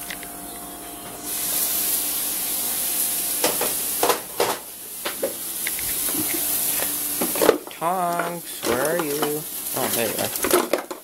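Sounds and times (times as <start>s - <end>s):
sausage sizzling in a frying pan: 1.2s - 11.0s.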